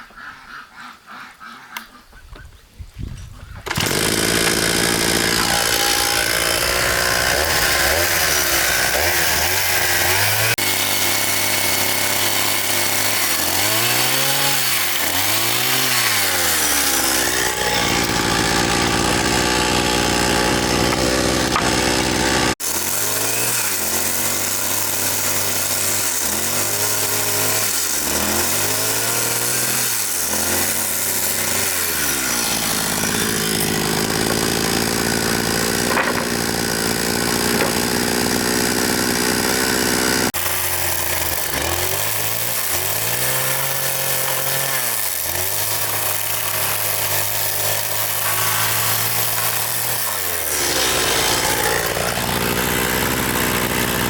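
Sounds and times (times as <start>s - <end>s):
small engine revving: 3.7s - 54.0s.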